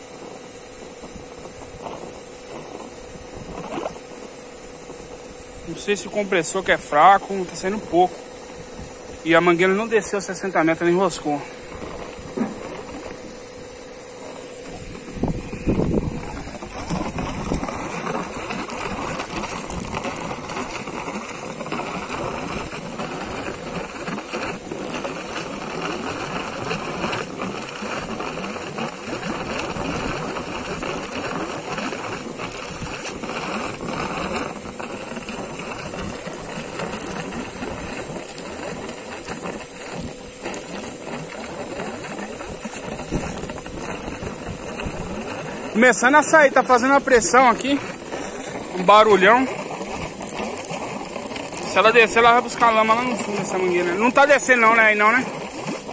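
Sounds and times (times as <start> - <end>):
air compressor running: 0.0 - 55.9
air sputtering from hose: 0.0 - 55.9.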